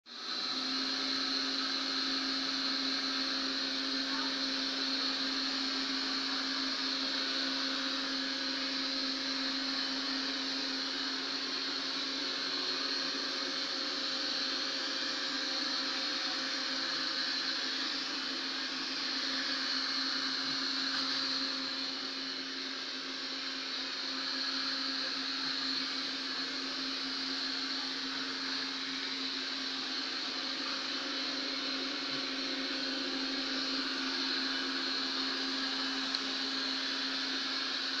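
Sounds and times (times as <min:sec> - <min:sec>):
robot vacuum cleaner running: 0:00.1 - 0:38.0.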